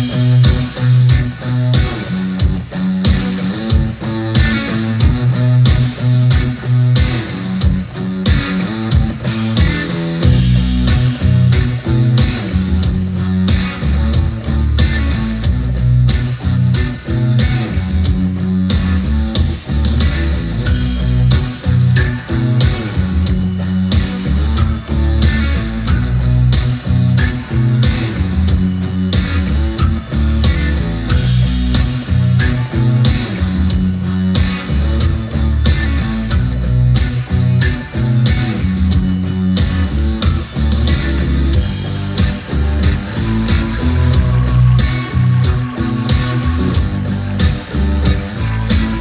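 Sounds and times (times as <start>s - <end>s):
rock music with guitar and drums: 0.0s - 49.0s.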